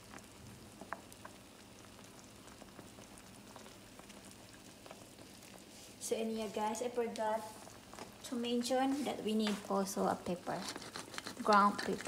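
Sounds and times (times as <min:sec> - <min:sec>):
liquid simmering and sizzling: 0:00.0 - 0:12.0.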